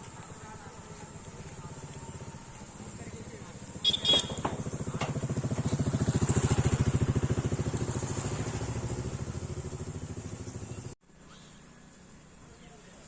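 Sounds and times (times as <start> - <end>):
motorcycle engine passing: 0.1 - 11.0.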